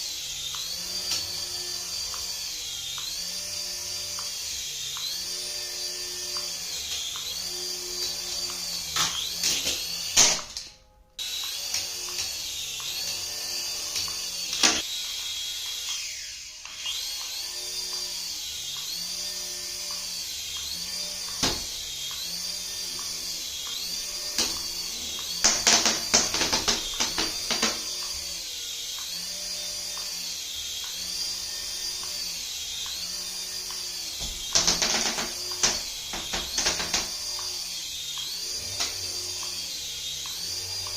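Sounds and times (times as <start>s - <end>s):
small electric motor whine: 0.0s - 40.9s.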